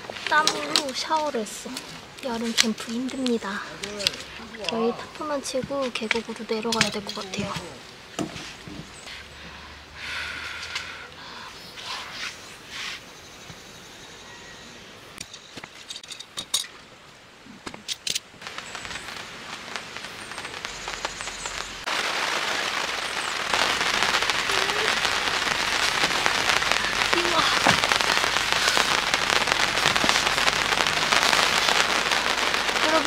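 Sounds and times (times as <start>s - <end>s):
rain hiss: 0.0s - 33.0s.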